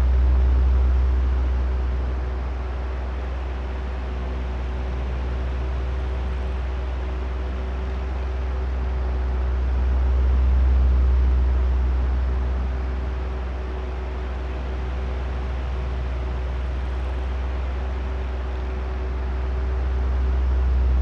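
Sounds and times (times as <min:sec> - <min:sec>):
electric fan motor hum: 0:00.0 - 0:21.0.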